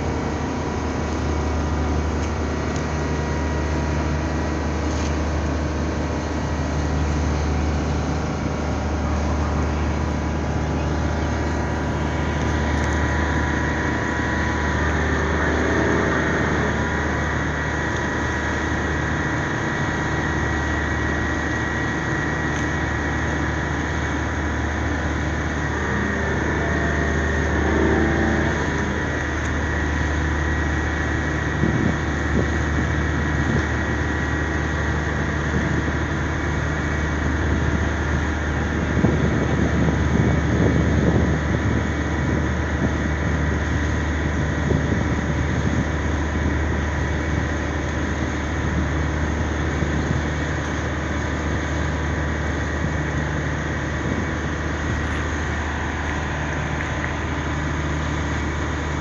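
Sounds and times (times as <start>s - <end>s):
large engine droning: 0.0s - 59.0s.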